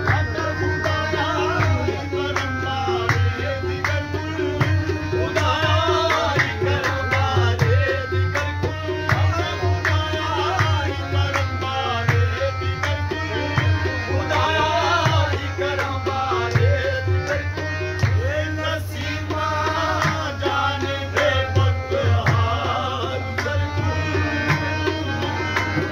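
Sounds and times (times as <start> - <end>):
harmoniums playing: 0.0 - 25.9
men singing: 0.0 - 25.9.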